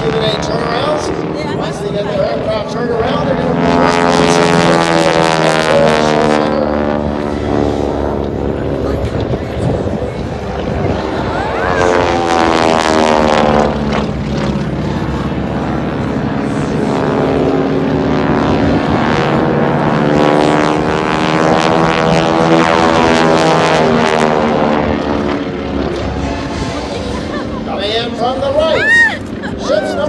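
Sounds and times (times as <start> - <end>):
propeller aircraft flying low: 0.0 - 30.0.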